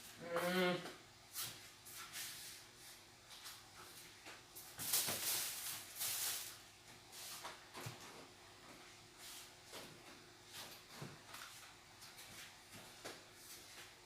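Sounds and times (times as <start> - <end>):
rustling and handling noises: 1.3 - 14.0.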